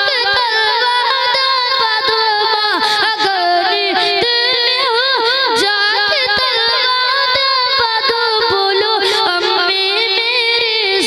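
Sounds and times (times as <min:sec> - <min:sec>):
boy singing into a microphone: 0:00.0 - 0:11.0.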